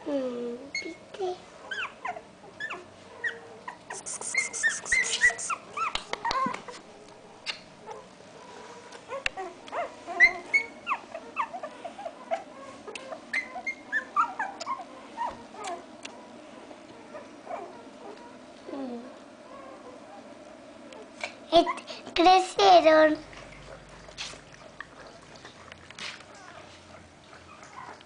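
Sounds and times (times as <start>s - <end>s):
puppies squeaking and whimpering: 0.6s - 1.0s, 1.6s - 6.8s, 8.8s - 18.8s, 19.4s - 21.9s, 23.4s - 28.0s.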